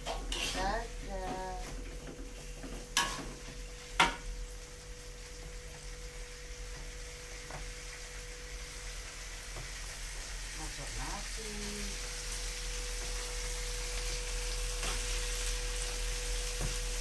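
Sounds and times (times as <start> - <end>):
rice sizzling in a pan: 0.0 - 17.0.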